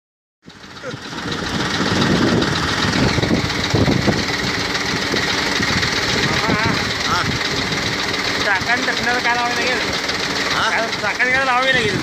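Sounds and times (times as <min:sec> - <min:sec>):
heavy diesel engine running: 0:00.4 - 0:12.0.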